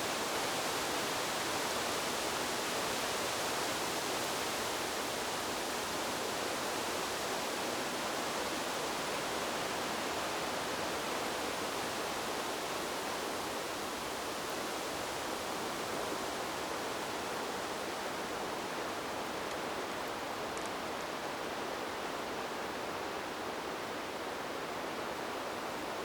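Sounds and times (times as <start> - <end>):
wind through bamboo leaves: 0.0 - 26.0.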